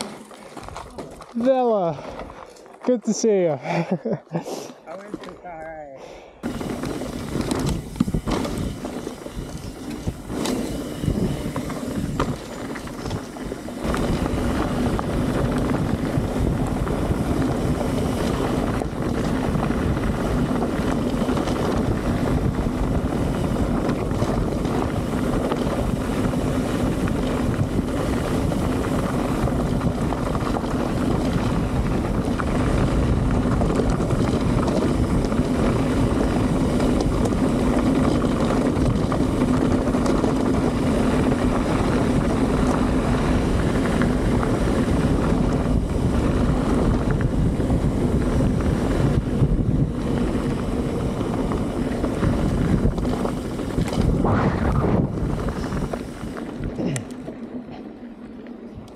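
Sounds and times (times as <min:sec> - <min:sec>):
bike knocks and rattles: 0:00.0 - 0:03.0, 0:06.4 - 0:54.2
tyre rumble on gravel: 0:00.0 - 0:03.0, 0:06.4 - 0:57.0
wind buffeting microphone: 0:06.4 - 0:57.7.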